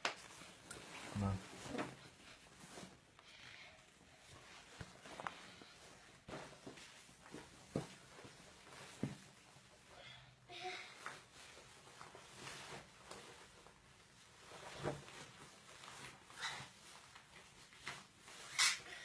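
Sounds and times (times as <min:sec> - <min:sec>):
clothing rustling: 0:00.0 - 0:19.0.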